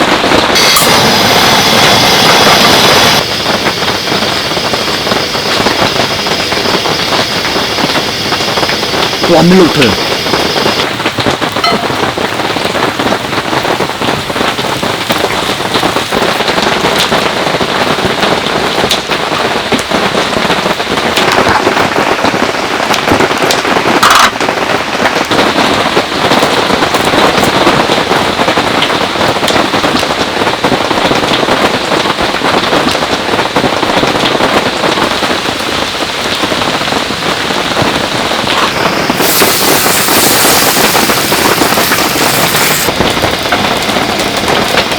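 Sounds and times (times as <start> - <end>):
heavy rain pattering: 0.0 - 44.9.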